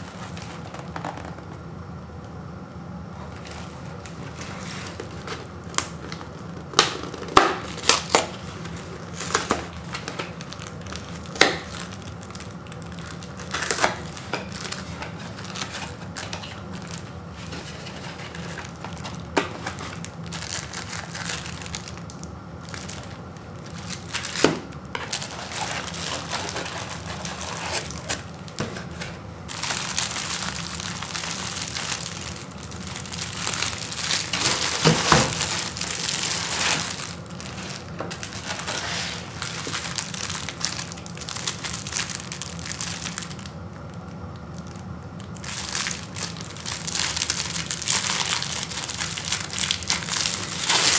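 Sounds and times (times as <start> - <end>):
plastic wrap crinkling: 0.0 - 1.6, 3.2 - 50.9.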